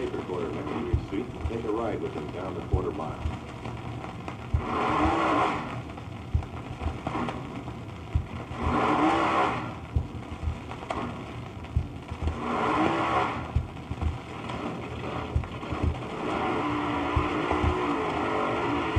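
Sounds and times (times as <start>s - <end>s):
record surface hiss: 0.0s - 18.9s
recorded race car engine revving: 0.0s - 18.9s.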